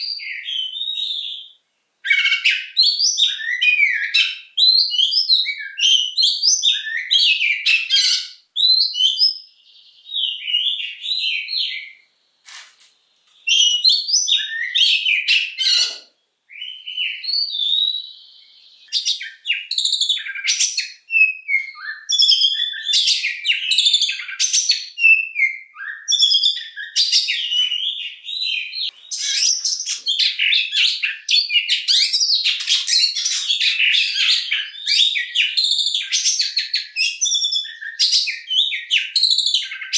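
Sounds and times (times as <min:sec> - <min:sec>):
bird singing chirps and trills: 0:00.0 - 0:12.4, 0:13.3 - 0:39.9.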